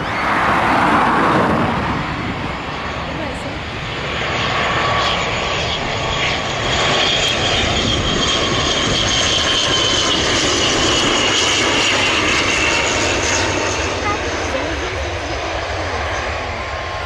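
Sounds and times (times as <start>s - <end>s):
airliner engines passing: 0.0s - 17.0s.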